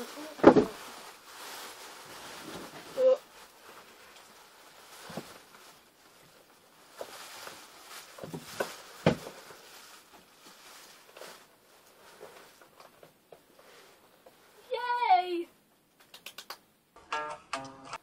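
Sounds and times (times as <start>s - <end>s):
clothing rustling: 0.0s - 15.2s.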